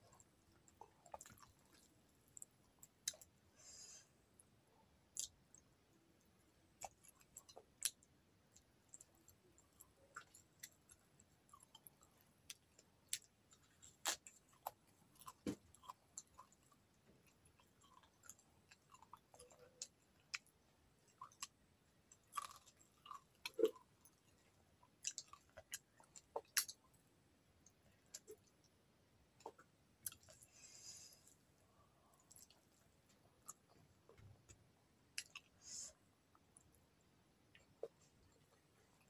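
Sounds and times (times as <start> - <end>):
person chewing food: 0.0 - 4.0, 5.1 - 26.9, 29.4 - 36.7.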